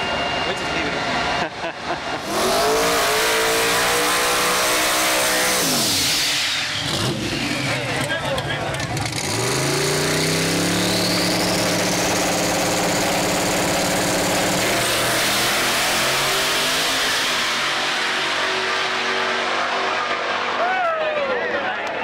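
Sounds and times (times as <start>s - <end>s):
turbo whine: 0.0s - 8.2s, 9.5s - 20.6s
engine at high revs: 0.8s - 20.7s.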